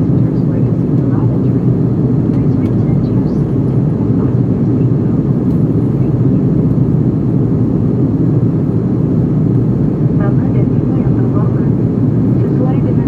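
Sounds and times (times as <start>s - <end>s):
airliner cabin jet engine rush: 0.0s - 13.0s.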